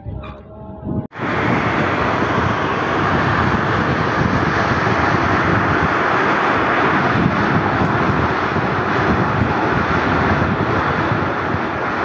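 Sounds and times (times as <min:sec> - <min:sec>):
strong wind rushing: 0:00.0 - 0:12.0.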